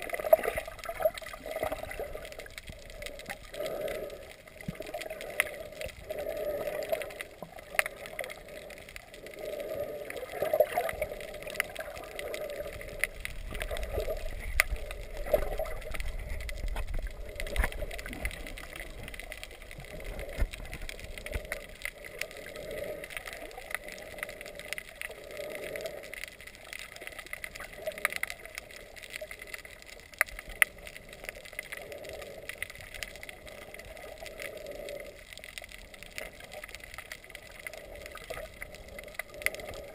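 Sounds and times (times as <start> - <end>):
muffled underwater gurgling: 0.0 - 39.9
sharp underwater clicks: 0.0 - 39.9.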